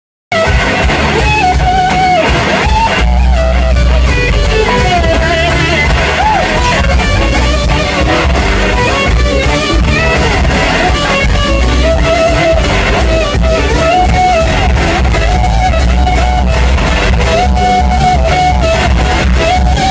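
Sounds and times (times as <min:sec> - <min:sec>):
electric guitar lead: 0:00.3 - 0:19.9
heavy bass: 0:00.3 - 0:19.9
steady drums: 0:00.3 - 0:19.9.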